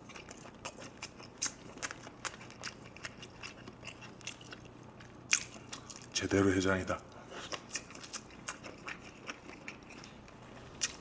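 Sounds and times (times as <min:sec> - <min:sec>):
person chewing food: 0:00.0 - 0:06.2, 0:07.1 - 0:11.0.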